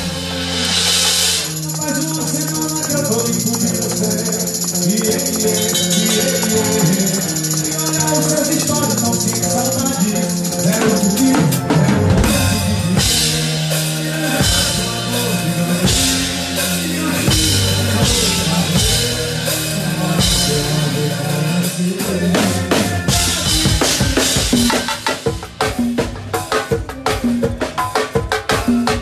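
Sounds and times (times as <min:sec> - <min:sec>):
bass line: 0:00.0 - 0:26.4
drum kit: 0:00.0 - 0:29.0
hand percussion: 0:00.0 - 0:29.0.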